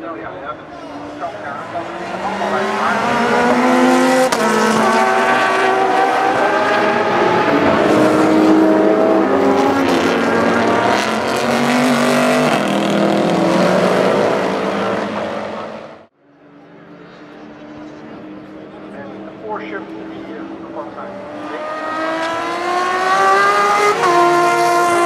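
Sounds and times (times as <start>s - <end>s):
race cars passing at high revs: 0.0s - 25.0s.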